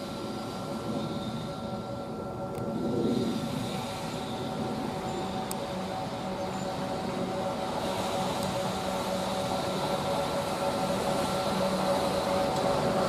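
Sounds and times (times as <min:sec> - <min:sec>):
electric locomotive hum and whir: 0:00.0 - 0:13.0.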